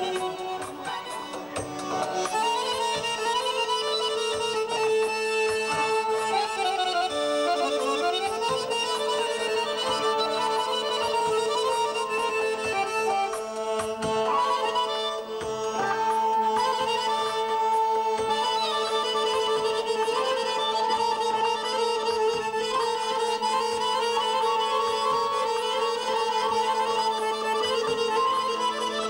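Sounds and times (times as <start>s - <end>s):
button accordions playing folk melody: 0.0s - 29.0s.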